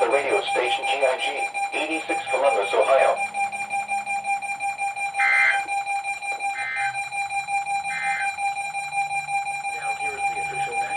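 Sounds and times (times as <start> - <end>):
digital data tone bursts: 0.0 - 10.9
steady high tone: 0.0 - 10.9.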